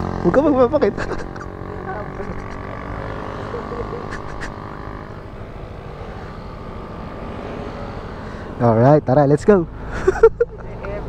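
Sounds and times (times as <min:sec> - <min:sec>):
motor scooter engine droning: 0:00.0 - 0:11.0.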